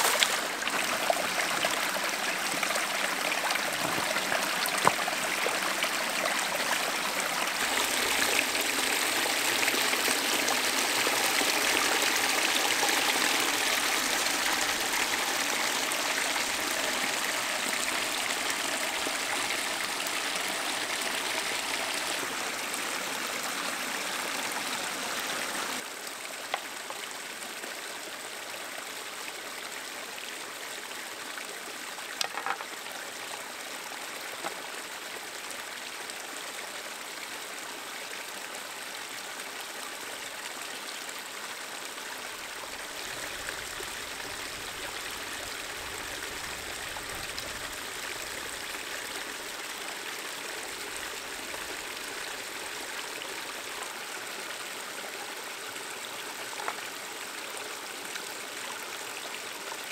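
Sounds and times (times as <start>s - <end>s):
creek trickling over stones: 0.0s - 59.9s.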